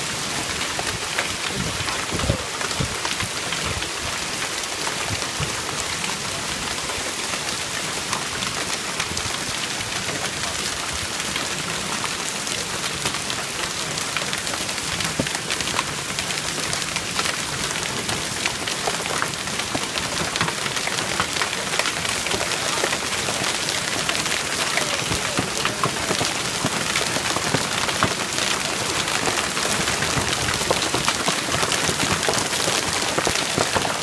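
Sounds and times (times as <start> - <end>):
hail pattering on wooden deck: 0.0 - 34.0.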